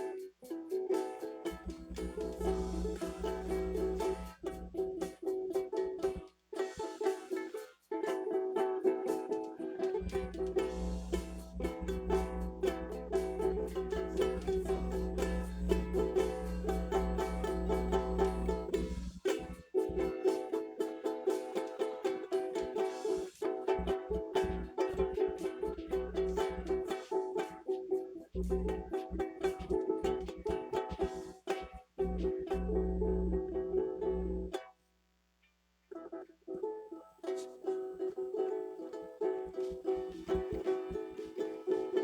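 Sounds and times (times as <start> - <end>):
steady low hum: 0.0 - 34.6, 39.3 - 42.0.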